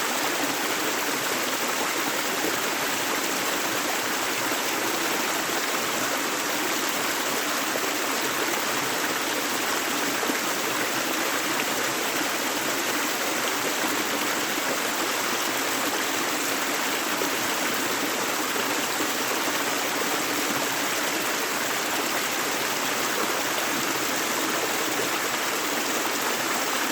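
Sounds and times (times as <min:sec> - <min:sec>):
gentle river flowing: 0:00.0 - 0:26.9.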